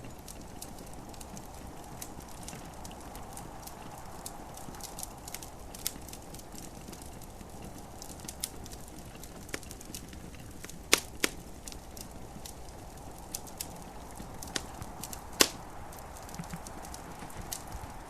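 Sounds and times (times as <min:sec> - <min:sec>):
fire pops and snaps: 0:00.0 - 0:18.0
soft hiss: 0:00.0 - 0:18.0
wood fire crackling: 0:00.0 - 0:18.0.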